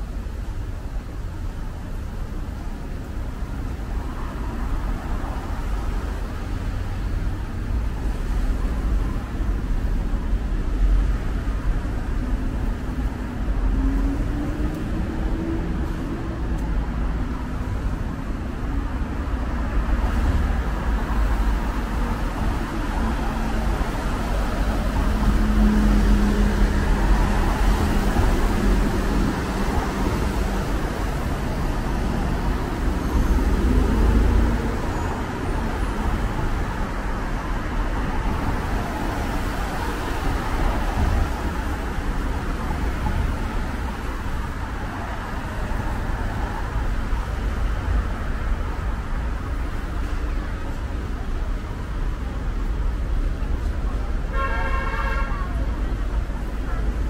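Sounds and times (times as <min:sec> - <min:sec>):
rumble of passing cars: 0:00.0 - 0:57.0.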